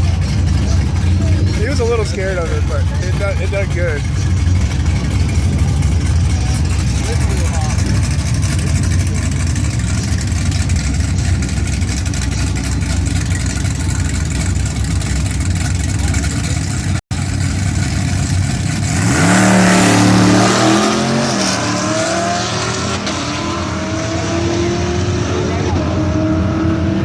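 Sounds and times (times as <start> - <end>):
car engine rumbling at low revs: 0.0 - 27.0
engine accelerating hard: 0.0 - 27.0.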